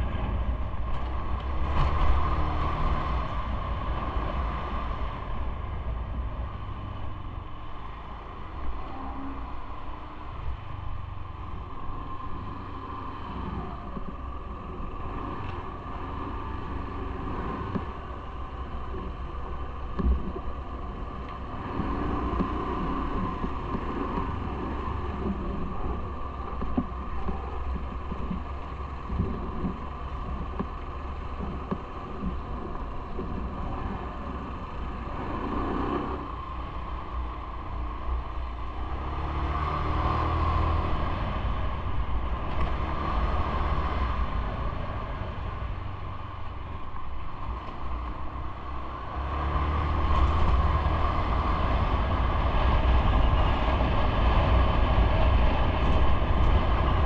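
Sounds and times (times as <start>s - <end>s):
vehicle road rumble: 0.0s - 57.0s.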